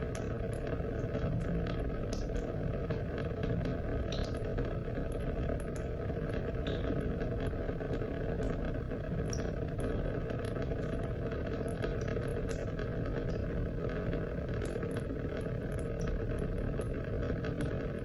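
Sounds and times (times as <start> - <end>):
raindrops ticking: 0.0 - 17.8.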